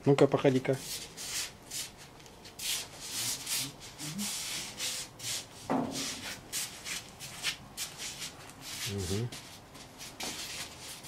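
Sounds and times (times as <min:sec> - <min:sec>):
slippers shuffling on floor: 0:00.9 - 0:11.0.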